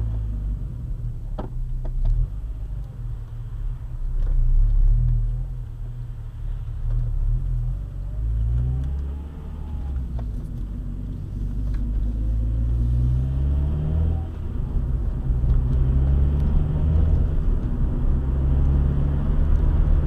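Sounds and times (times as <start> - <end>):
car engine accelerating: 0.0 - 20.0
road noise rumble: 0.0 - 20.0.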